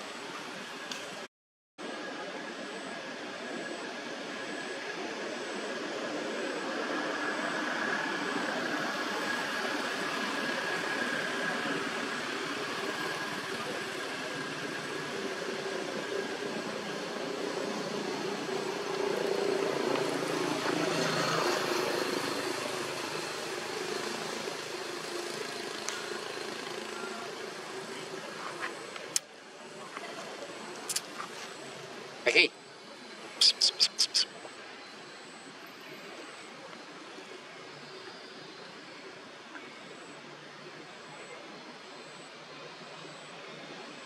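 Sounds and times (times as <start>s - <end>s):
low engine-like drone: 0.0s - 44.0s.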